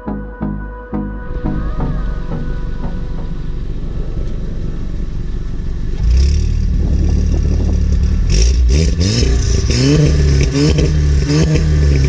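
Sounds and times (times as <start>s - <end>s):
car engine revving: 1.2s - 12.0s
exhaust crackling and popping: 1.2s - 12.0s.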